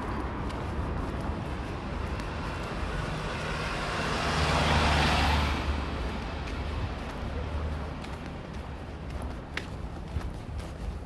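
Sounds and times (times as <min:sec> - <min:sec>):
vehicle passing close by: 0:00.0 - 0:09.0.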